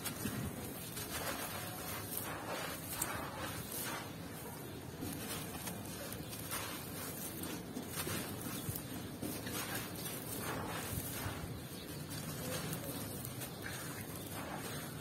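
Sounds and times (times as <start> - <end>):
hands crunching gritty sand: 0.0 - 15.0.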